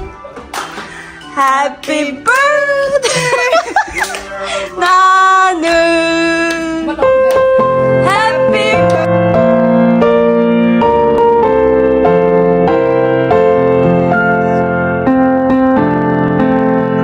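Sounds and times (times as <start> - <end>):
soft keyboard chords: 0.0 - 17.0.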